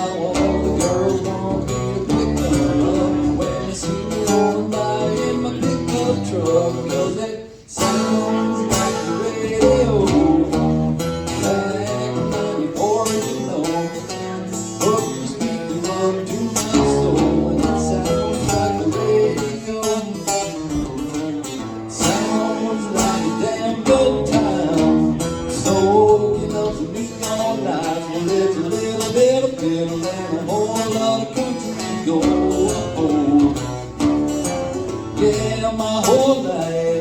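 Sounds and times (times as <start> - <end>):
live country music with guitar: 0.0 - 37.0.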